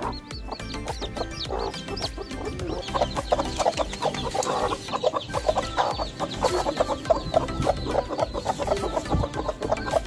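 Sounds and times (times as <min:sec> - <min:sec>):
hens clucking: 0:00.0 - 0:10.0.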